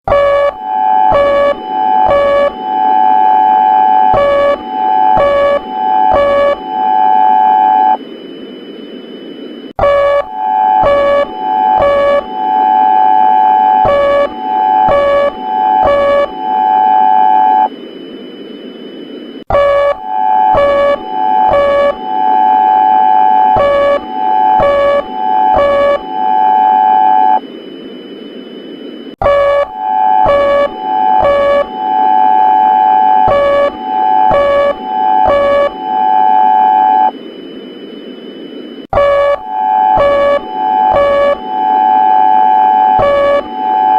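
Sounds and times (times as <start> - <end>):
steady high alarm tone: 0.1 - 8.0, 9.8 - 17.7, 19.5 - 27.4, 29.2 - 37.8, 38.9 - 43.9
harsh buzzing beep: 0.1 - 43.9.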